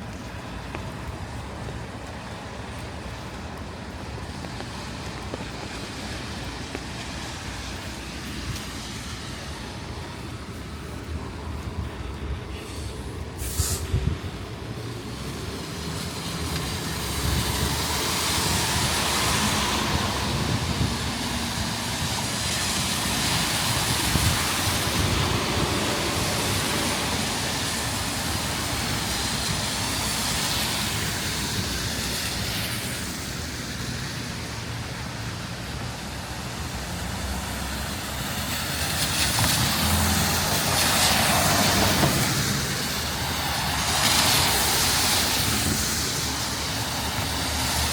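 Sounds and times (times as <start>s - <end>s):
rain: 0.0s - 47.9s
tyres hissing on wet road: 0.0s - 47.9s.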